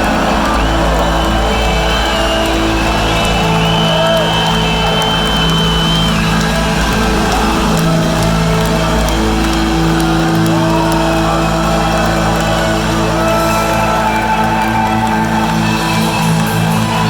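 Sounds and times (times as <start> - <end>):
electric guitar sustained notes: 0.0 - 17.0.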